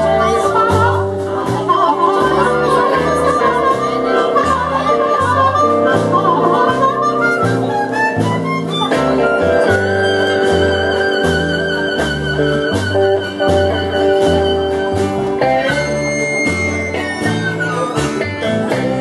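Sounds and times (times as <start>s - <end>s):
lead guitar solo: 0.0s - 19.0s
repeating bass line: 0.0s - 19.0s.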